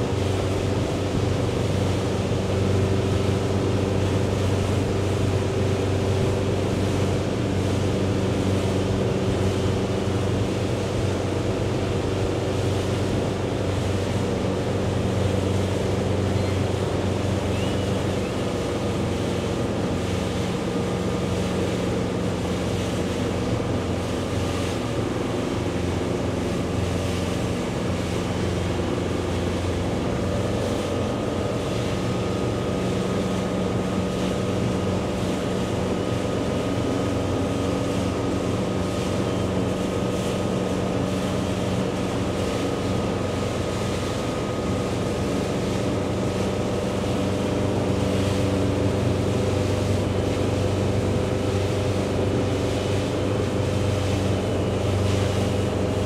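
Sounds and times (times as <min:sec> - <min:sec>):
motorboat engine humming: 0:00.0 - 0:56.0
water rushing: 0:00.0 - 0:56.0.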